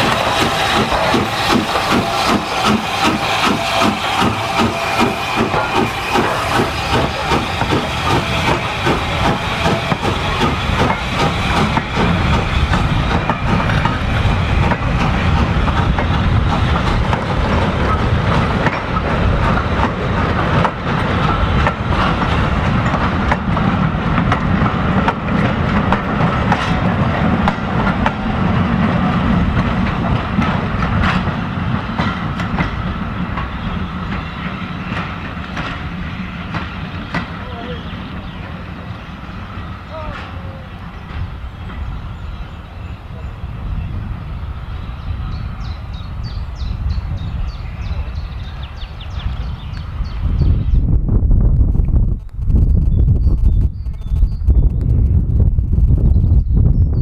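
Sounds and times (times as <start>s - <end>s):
steam locomotive passing: 0.0s - 52.1s.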